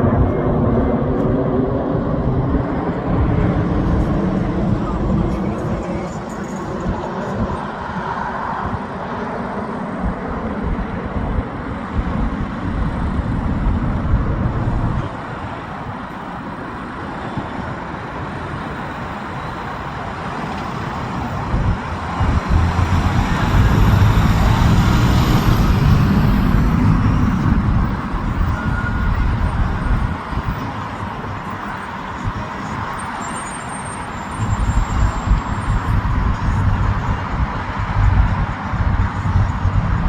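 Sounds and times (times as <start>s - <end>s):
high engine whine: 0.0s - 40.0s
jet engines roaring: 0.0s - 40.0s.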